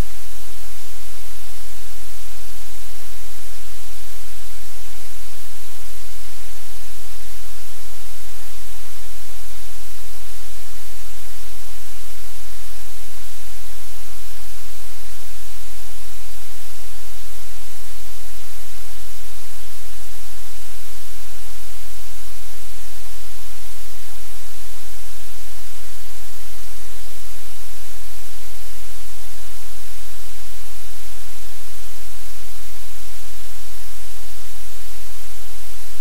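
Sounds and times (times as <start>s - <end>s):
white noise hiss: 0.0s - 36.0s.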